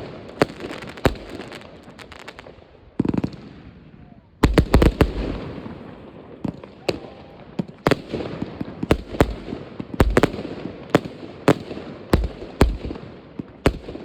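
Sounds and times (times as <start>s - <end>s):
distant fireworks crackling and rumbling: 0.0s - 14.0s
firework bangs: 0.0s - 14.0s.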